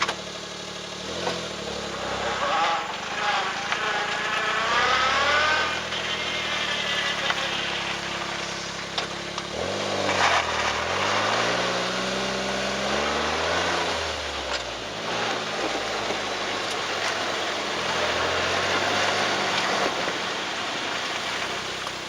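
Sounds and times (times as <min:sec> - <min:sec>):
abnormal car noise: 0:00.0 - 0:22.0
car engine running: 0:00.0 - 0:22.0.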